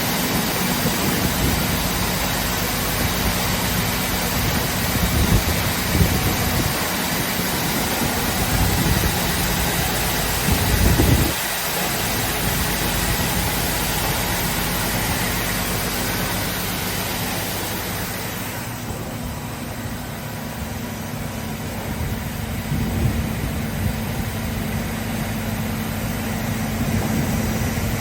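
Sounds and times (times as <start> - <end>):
heavy low rumble: 0.0 - 28.0.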